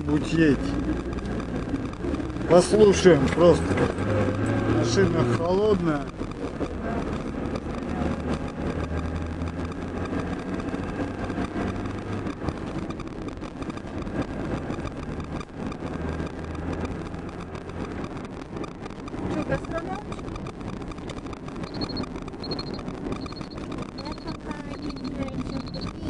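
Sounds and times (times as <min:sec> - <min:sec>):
engine hum: 0:00.0 - 0:26.0
faint clicks and rattles: 0:00.0 - 0:26.0
road noise: 0:00.0 - 0:26.0.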